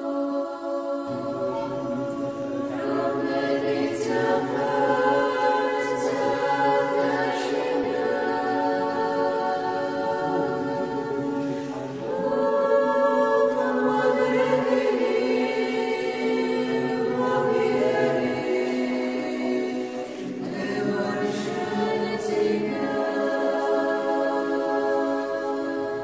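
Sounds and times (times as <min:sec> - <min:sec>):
choir chanting a cappella: 0:00.0 - 0:26.0.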